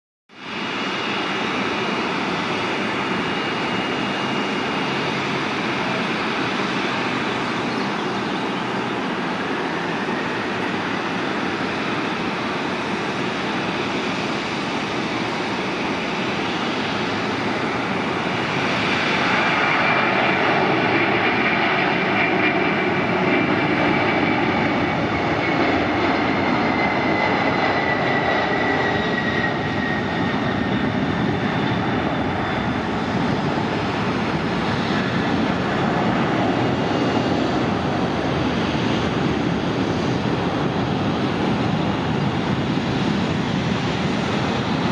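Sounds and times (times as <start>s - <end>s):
jet engines roaring at takeoff: 0.3s - 44.9s.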